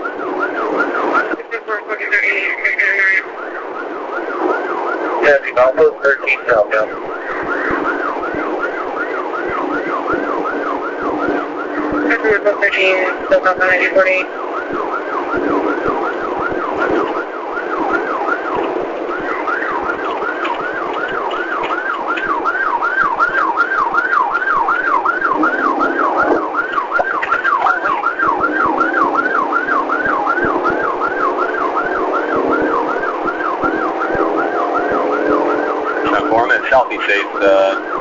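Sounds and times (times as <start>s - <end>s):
police siren yelping: 0.0s - 38.0s
steady rushing noise: 0.0s - 38.0s.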